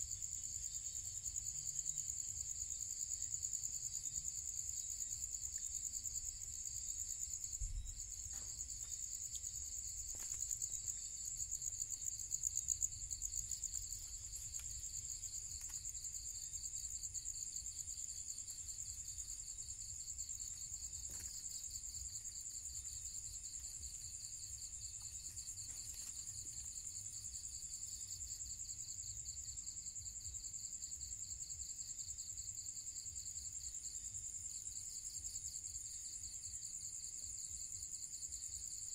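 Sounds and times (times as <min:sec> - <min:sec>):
night insects trilling: 0:00.0 - 0:38.9.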